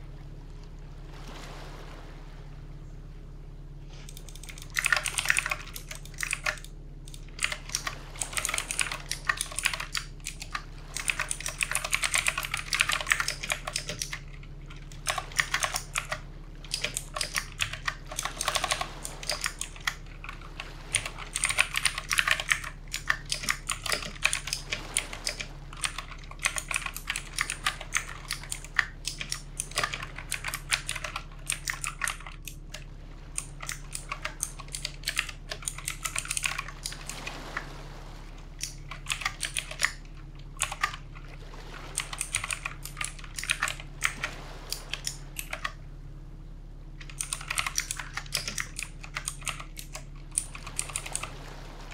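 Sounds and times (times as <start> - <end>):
faint low hum: 0.0 - 51.9
mechanical keyboard typing: 4.1 - 32.8, 33.4 - 37.3, 38.6 - 40.0, 40.6 - 41.0, 41.9 - 45.8, 47.0 - 51.3.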